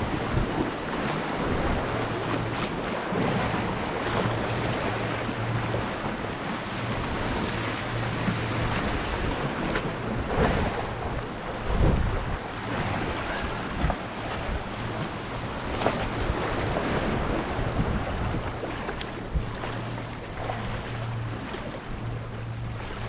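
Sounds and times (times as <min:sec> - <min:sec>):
wind gusting over microphone: 0:00.0 - 0:20.6
waves washing on shore: 0:00.0 - 0:23.0.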